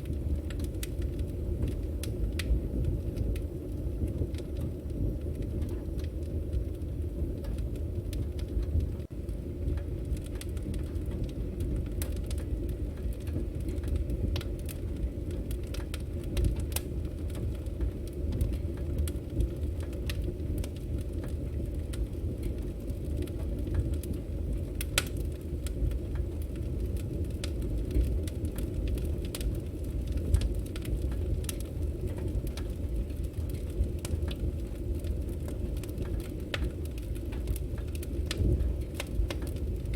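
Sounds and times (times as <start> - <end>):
firewood crackling and popping: 0.0 - 39.9
flames rumbling: 0.0 - 39.9.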